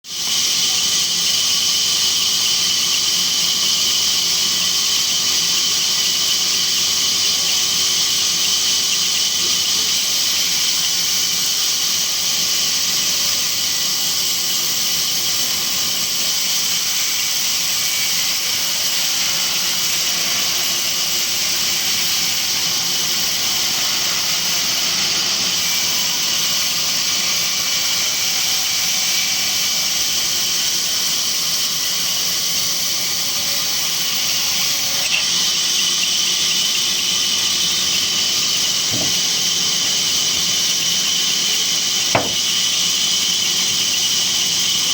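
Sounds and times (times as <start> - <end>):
band saw whining: 0.1 - 44.9.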